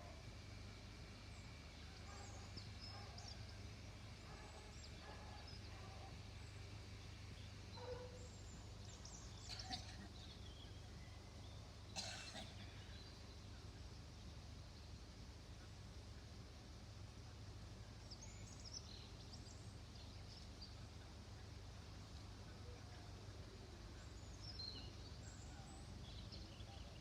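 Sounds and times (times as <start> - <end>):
faint outdoor ambience: 0.0 - 27.0.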